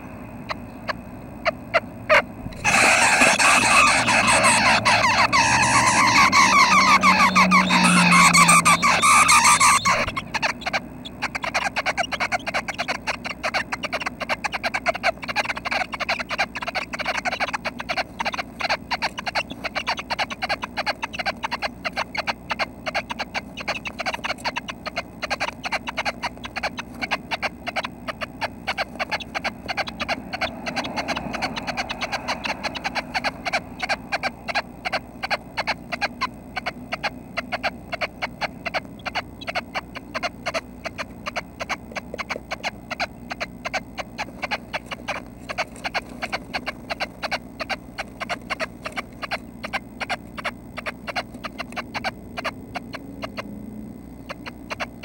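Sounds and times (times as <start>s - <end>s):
nestlings rasping calls: 0.0s - 55.0s.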